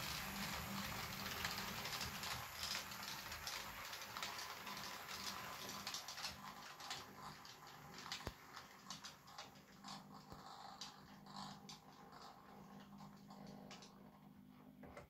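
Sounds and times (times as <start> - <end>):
model train rattling on track: 0.0 - 13.9
wheel clicks over rail joints: 0.0 - 14.0.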